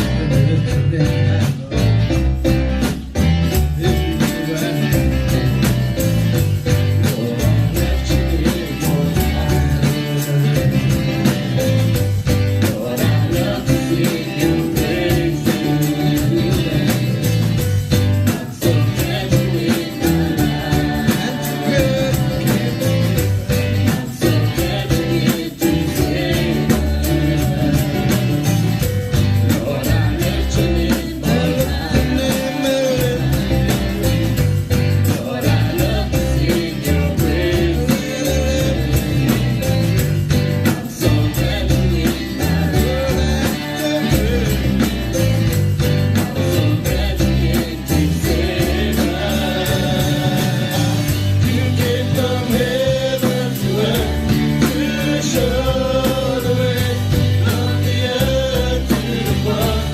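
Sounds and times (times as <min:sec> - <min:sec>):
gospel singing with band: 0:00.0 - 0:59.9.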